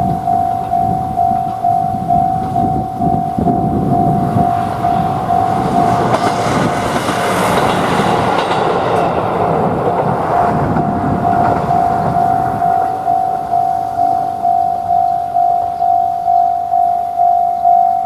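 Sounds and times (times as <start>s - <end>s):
wheels clacking over rail joints: 0.0s - 16.2s
train rumbling past: 0.0s - 17.9s
railroad crossing warning bell: 0.0s - 18.0s.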